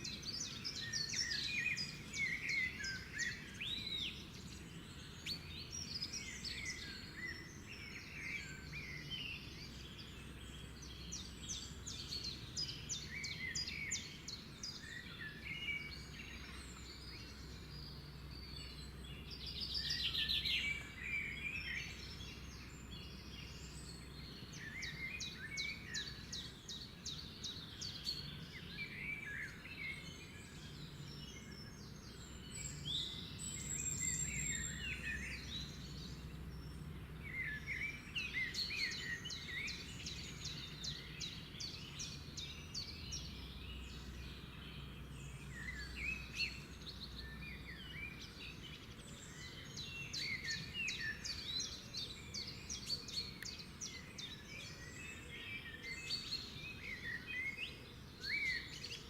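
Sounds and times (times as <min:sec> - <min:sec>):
birds singing and trilling: 0:00.0 - 0:59.0.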